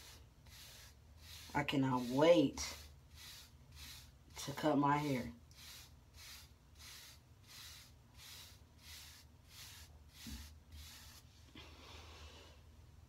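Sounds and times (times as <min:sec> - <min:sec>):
hairbrush swishing through hair: 0:00.0 - 0:11.6.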